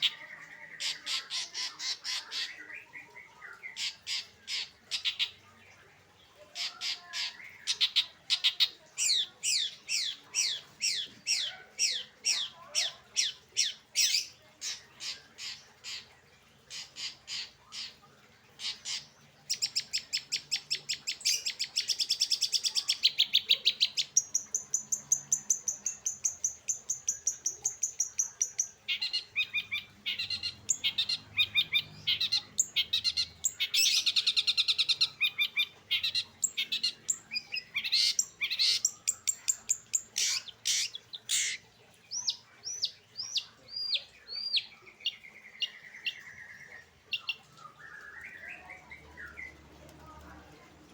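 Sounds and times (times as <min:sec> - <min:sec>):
bird singing chattering song: 0:00.0 - 0:50.3.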